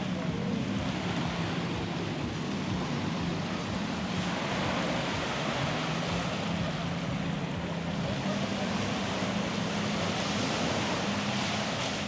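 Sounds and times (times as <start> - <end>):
surf washing on a beach: 0.0 - 12.0.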